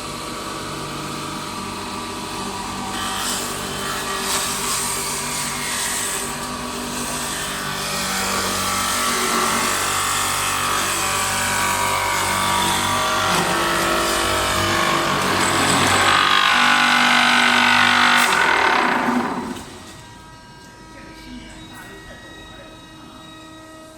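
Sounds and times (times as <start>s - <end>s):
wood lathe whirring: 0.9s - 23.9s.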